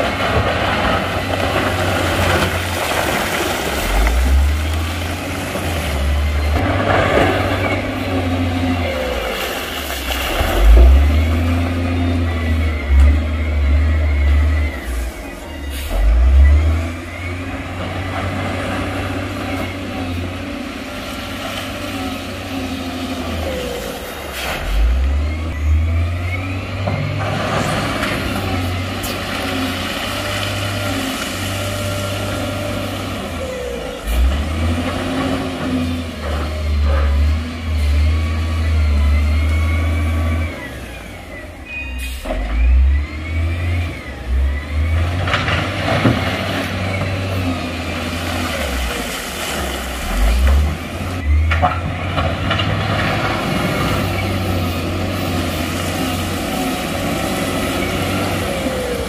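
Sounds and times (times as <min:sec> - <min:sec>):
heavy diesel engines revving: 0:00.0 - 0:59.0.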